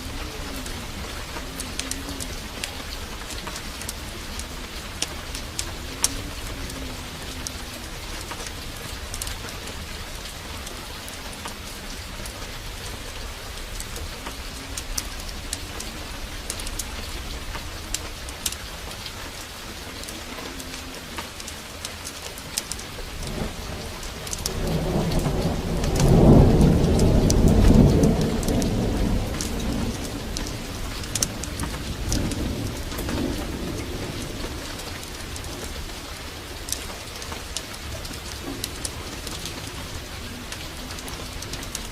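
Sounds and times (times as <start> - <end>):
thunder rumbling: 0.0 - 21.8, 22.4 - 41.9
heavy rain pouring: 0.0 - 41.9
sharp drip ticks: 0.0 - 41.9.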